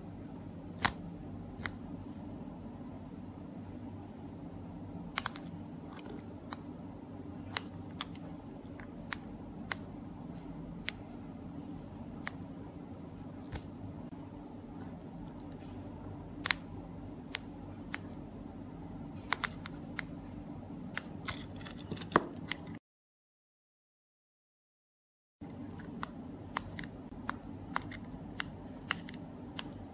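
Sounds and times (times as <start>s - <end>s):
steady low hum: 0.0s - 22.8s, 25.4s - 29.9s.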